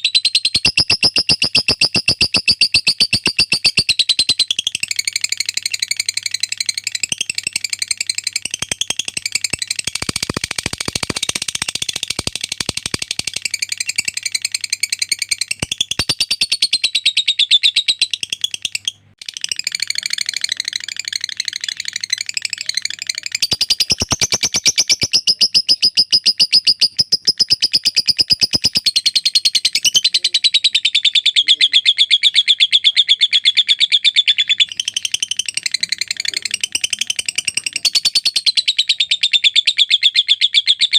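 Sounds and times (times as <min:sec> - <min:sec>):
bird chattering trill: 0:00.0 - 0:40.9.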